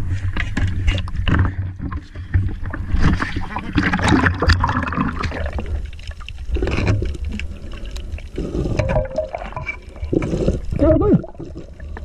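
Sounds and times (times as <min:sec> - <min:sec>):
seawater splashing and sloshing: 0:02.1 - 0:12.0.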